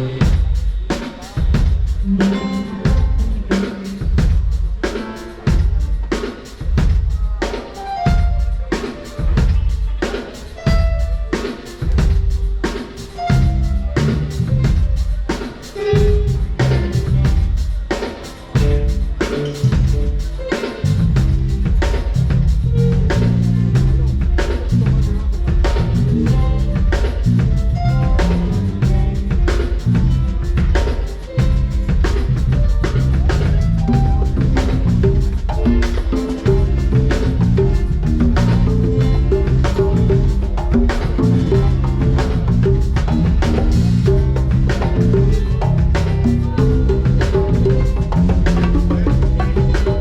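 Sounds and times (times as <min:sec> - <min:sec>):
drum kit beat: 0:00.0 - 0:50.0
live band music: 0:00.0 - 0:50.0.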